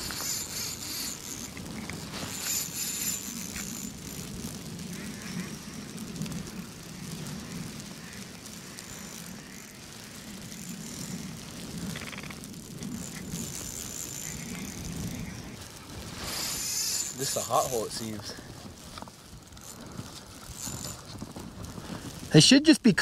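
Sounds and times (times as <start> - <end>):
fishing reel gears whirring: 0.0 - 18.3, 19.0 - 21.8.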